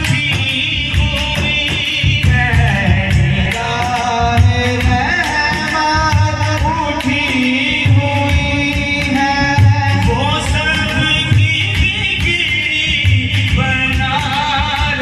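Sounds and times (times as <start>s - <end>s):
low drum beat: 0.0s - 15.0s
person singing devotional song: 0.0s - 15.0s.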